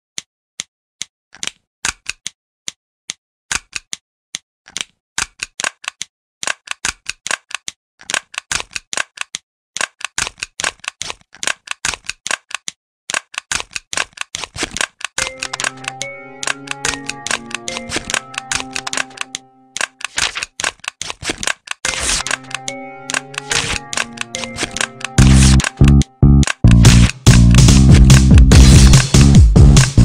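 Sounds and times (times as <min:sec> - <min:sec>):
keyboard typing clicks: 0:01.4 - 0:02.8, 0:04.7 - 0:29.9.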